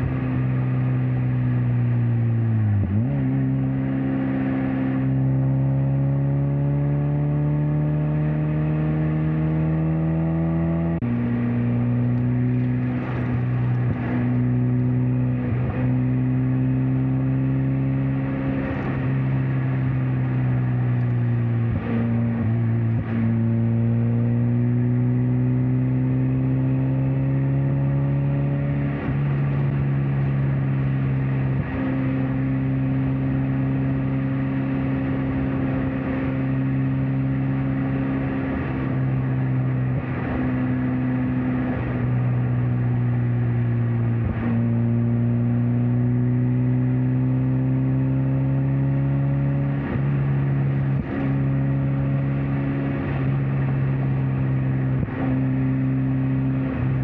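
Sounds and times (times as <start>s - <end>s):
car engine and exhaust: 0.0s - 57.0s
road and wind noise: 0.0s - 57.0s.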